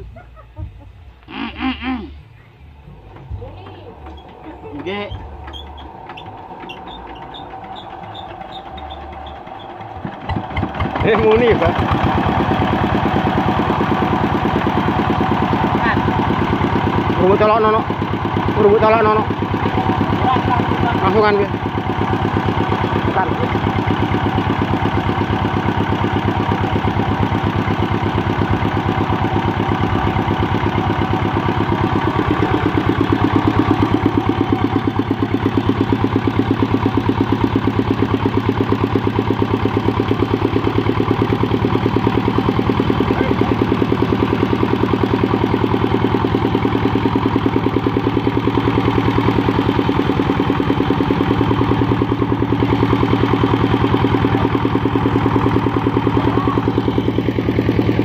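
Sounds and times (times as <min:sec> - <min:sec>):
diesel generator engine running: 0:00.0 - 0:58.0.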